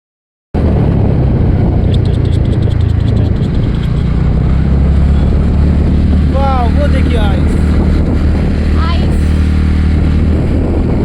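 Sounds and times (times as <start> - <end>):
motorcycle engine running: 0.6 - 11.0
wind rumble on microphone: 0.6 - 11.0.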